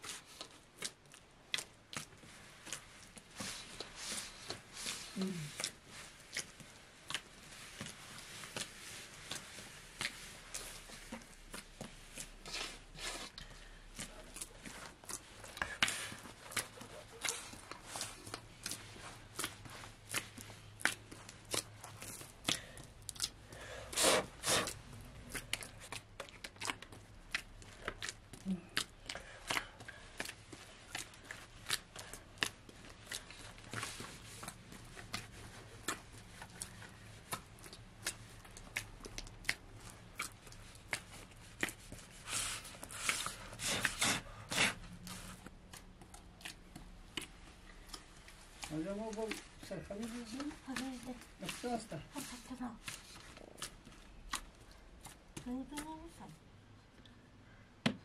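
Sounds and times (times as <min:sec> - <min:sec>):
dough kneaded in metal bowl: 0:00.0 - 0:56.4.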